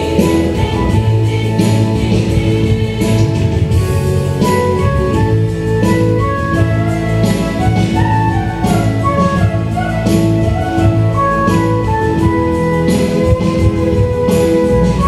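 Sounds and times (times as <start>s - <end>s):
flute-like hymn melody: 0.0s - 15.0s.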